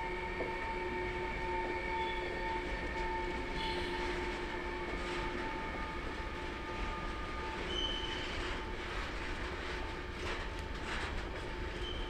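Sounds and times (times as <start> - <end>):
train running noise: 0.0 - 12.0
train squeal: 0.0 - 12.0.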